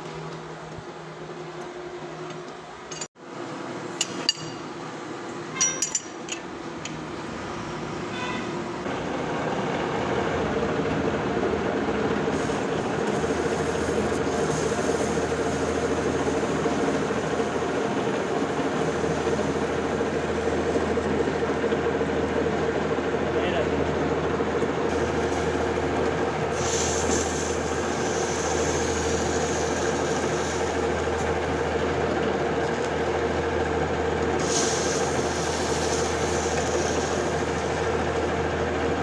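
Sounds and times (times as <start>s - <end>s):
lathe running with low hum: 0.0s - 39.0s.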